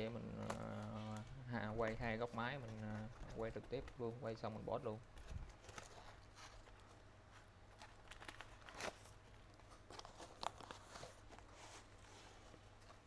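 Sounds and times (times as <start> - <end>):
parcel wrapping crinkling: 0.0 - 13.0.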